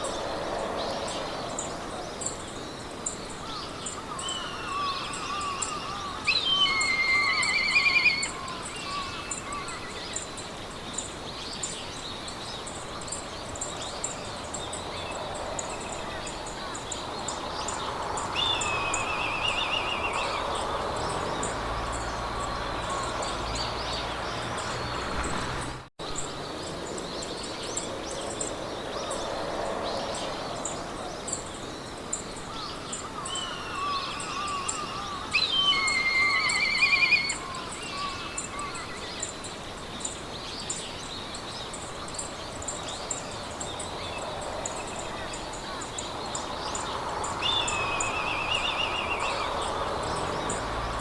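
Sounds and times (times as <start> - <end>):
insects chirping: 0.0 - 51.0
songbirds singing trills: 0.0 - 51.0.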